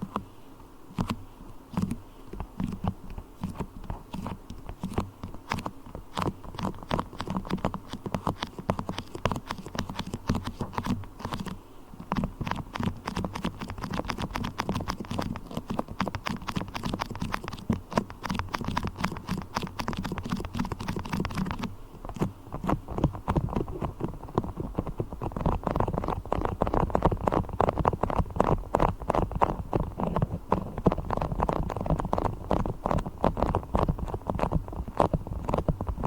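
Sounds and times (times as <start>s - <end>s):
sticky clicks and crackles of beeswax: 0.9s - 36.0s.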